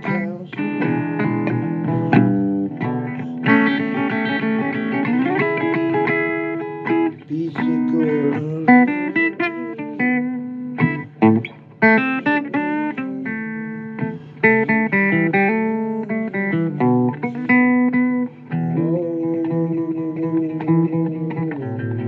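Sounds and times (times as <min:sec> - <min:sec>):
blues guitar playing: 0:00.0 - 0:22.0.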